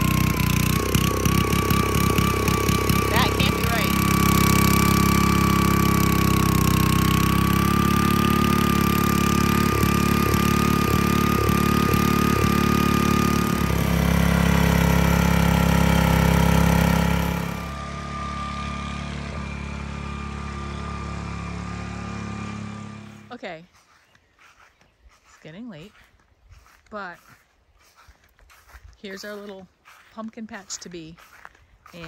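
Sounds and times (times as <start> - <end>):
rototiller engine running: 0.0 - 32.0.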